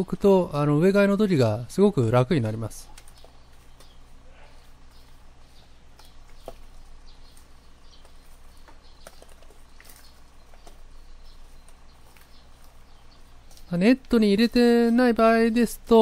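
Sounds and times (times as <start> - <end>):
soil rustling onto newspaper: 2.3 - 16.0.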